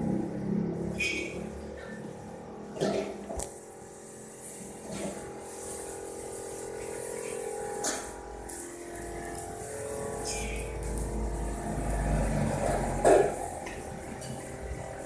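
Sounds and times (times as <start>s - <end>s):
arc welder crackling and hissing: 0.0s - 15.0s
steady machine hum: 0.0s - 15.0s.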